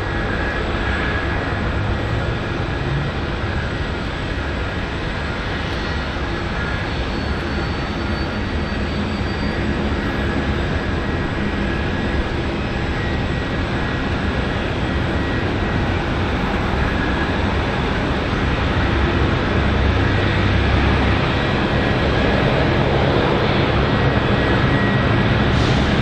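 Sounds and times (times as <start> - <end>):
jet engine rushing: 0.0 - 26.0.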